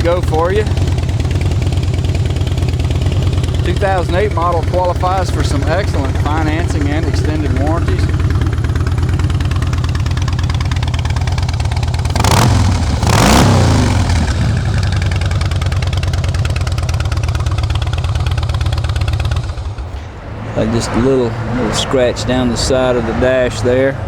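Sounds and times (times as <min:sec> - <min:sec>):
motorcycle engine idling: 0:00.0 - 0:20.8.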